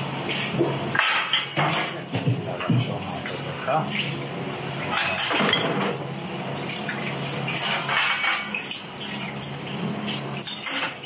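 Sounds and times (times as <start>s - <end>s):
low hum of kitchen equipment: 0.0s - 11.0s
dishes and utensils clinking: 0.3s - 4.2s, 4.8s - 6.0s, 6.6s - 11.0s.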